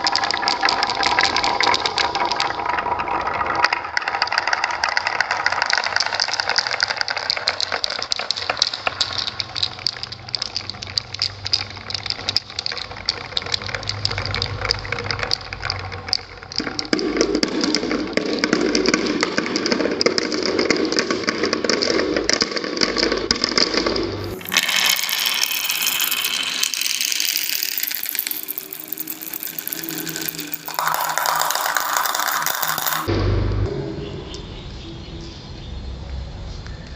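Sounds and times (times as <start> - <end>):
marbles rattling along a track: 0.0 - 33.1.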